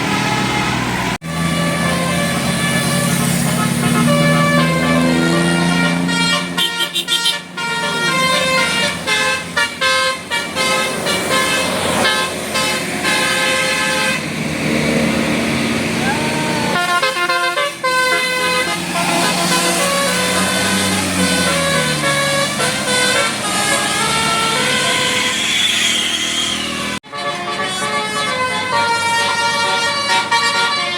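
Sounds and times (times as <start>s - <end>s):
bus musical horn melody: 0.0s - 15.0s, 15.8s - 30.9s
steady low horn tone: 0.0s - 15.8s, 16.6s - 30.9s.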